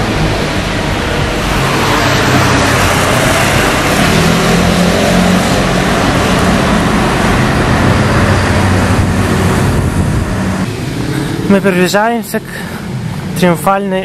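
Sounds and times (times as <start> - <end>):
bus engine drone: 0.0 - 14.0
road traffic passing: 0.0 - 14.0.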